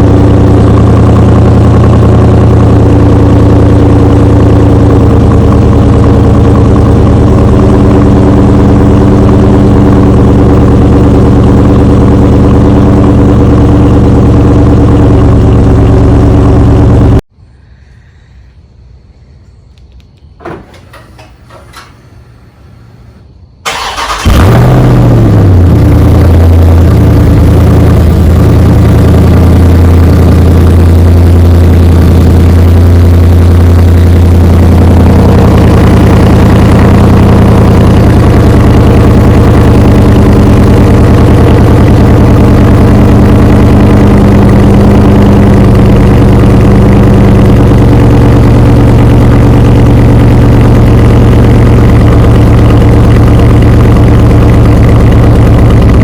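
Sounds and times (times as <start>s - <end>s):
car engine idling loudly: 0.0s - 17.2s, 20.4s - 56.0s.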